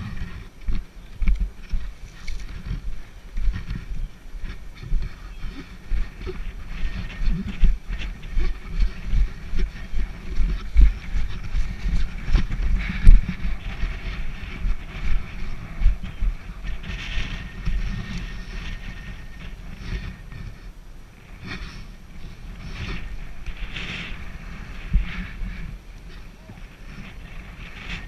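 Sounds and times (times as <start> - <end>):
heavy footsteps walking briskly: 0.0 - 28.0.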